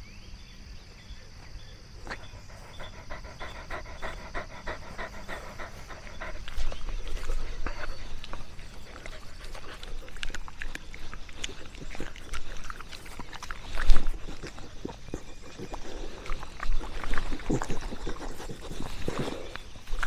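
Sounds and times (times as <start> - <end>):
dog rustling and clicking: 2.1 - 20.0.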